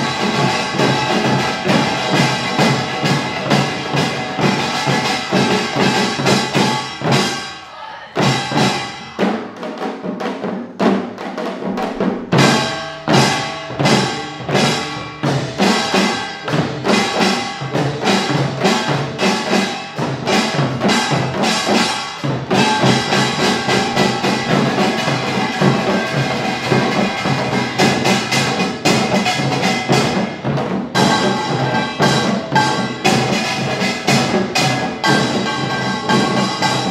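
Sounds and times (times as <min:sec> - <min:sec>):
small brass gongs clanging: 0:00.0 - 0:09.4, 0:12.3 - 0:36.9
hourglass and barrel drums: 0:00.0 - 0:36.9.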